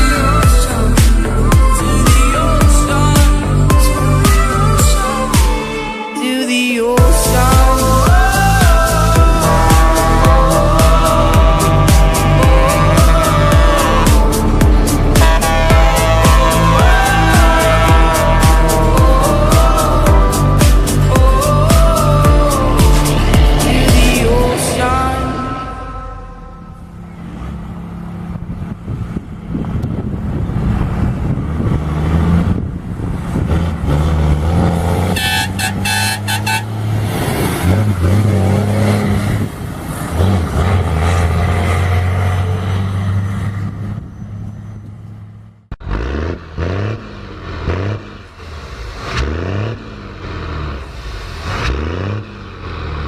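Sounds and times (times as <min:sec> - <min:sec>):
diesel truck engine braking: 0:00.0 - 0:53.0.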